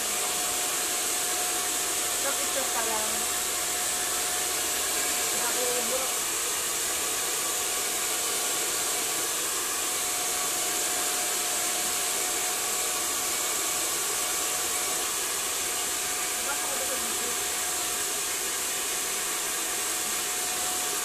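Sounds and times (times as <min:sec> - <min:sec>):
hair dryer blowing: 0:00.0 - 0:21.0.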